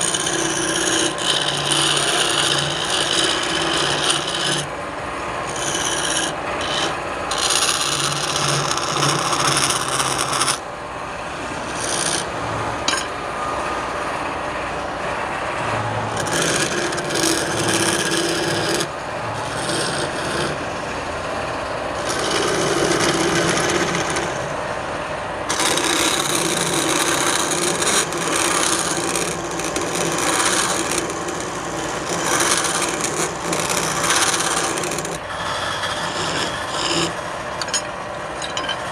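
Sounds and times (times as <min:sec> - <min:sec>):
lathe tool scraping wood: 0:00.0 - 0:04.8, 0:05.4 - 0:10.6, 0:11.2 - 0:13.1, 0:15.6 - 0:24.7, 0:25.5 - 0:38.9.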